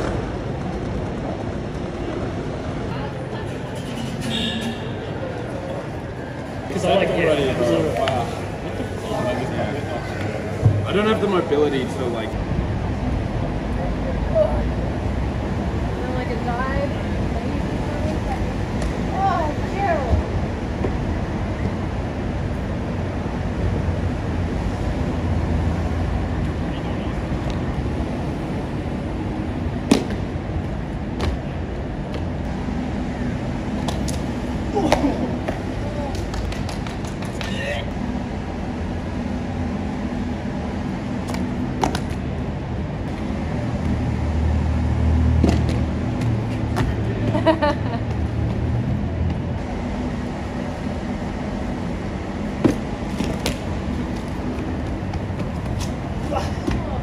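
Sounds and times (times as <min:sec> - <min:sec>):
street traffic noise: 0:00.0 - 0:57.0.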